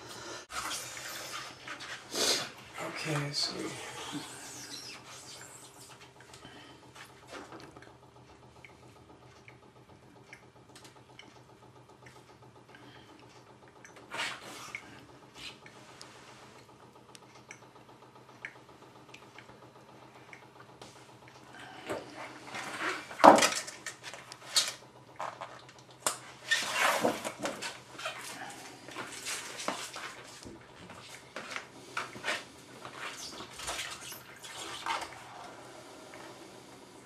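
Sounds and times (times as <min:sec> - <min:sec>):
steady low hum: 0:00.0 - 0:37.0
water dripping and sloshing: 0:05.0 - 0:15.9, 0:16.5 - 0:32.2, 0:32.8 - 0:36.2.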